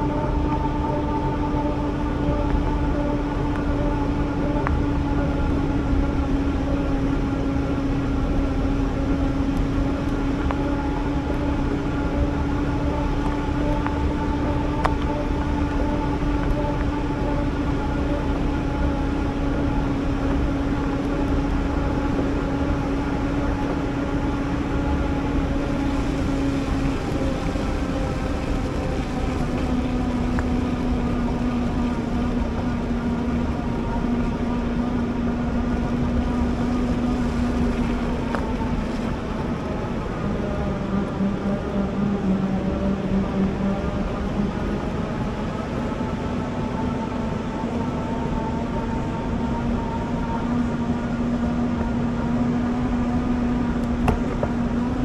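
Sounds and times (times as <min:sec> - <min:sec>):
wind and tyre rumble: 0:00.0 - 0:55.0.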